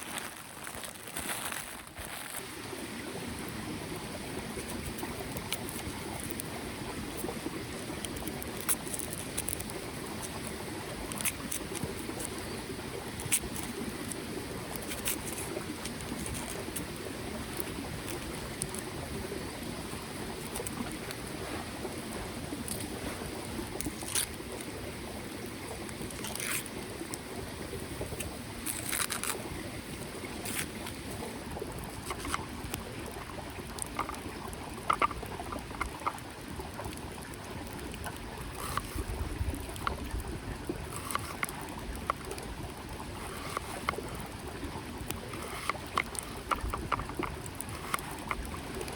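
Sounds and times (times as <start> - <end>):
mountain stream flowing: 0.0 - 48.9.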